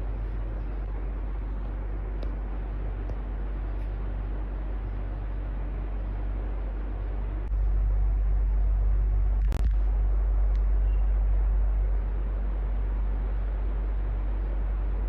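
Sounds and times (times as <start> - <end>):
electric fan whir: 0.0 - 15.0
low hum: 0.0 - 15.0.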